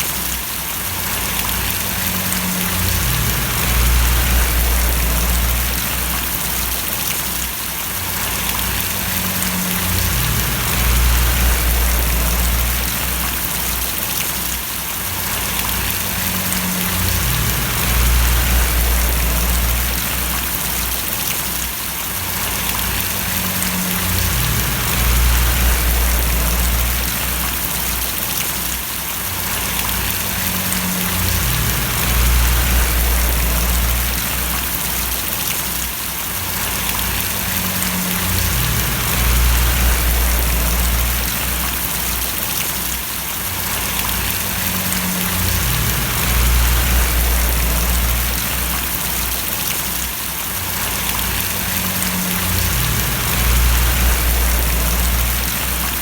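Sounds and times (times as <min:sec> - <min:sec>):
steady rain splashing: 0:00.0 - 0:56.0
low rumble: 0:01.2 - 0:07.1, 0:08.1 - 0:14.0, 0:15.3 - 0:21.3, 0:22.3 - 0:28.2, 0:29.6 - 0:35.5, 0:36.6 - 0:42.4, 0:43.8 - 0:49.7, 0:50.8 - 0:56.0.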